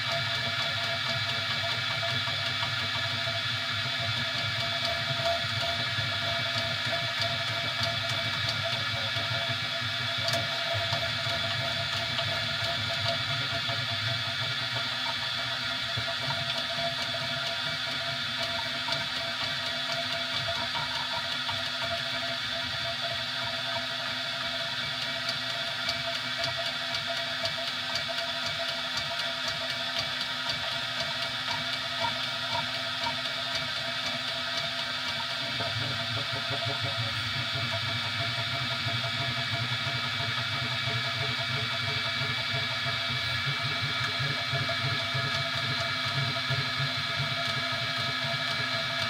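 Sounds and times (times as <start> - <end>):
three d printer humming: 0.0 - 49.0.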